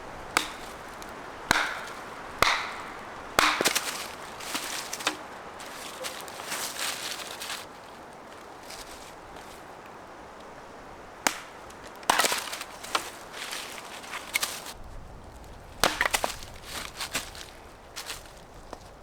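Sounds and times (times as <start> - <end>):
dry wood cracking and snapping: 0.0 - 10.5, 11.1 - 19.0.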